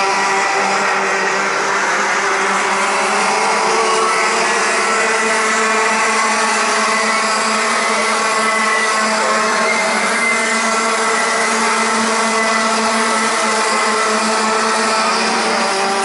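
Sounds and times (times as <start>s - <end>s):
kart engines racing: 0.0s - 16.0s.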